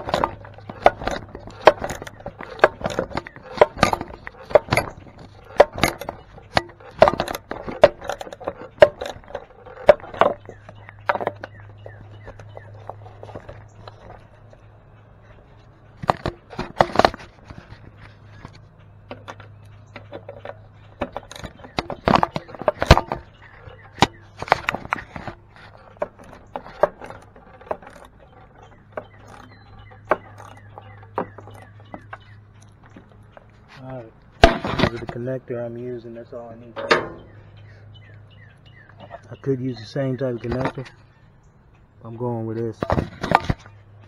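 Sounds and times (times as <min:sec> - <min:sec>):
hand tools clicking and scraping: 0:00.0 - 0:44.0
steady low hum: 0:00.0 - 0:44.0.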